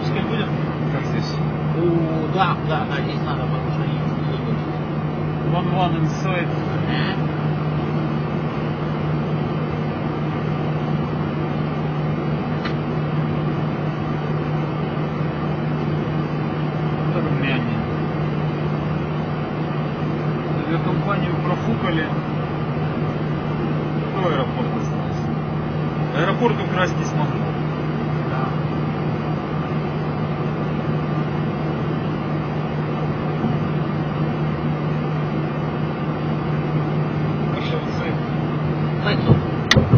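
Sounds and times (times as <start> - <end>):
airliner engines idling: 0.0 - 39.9.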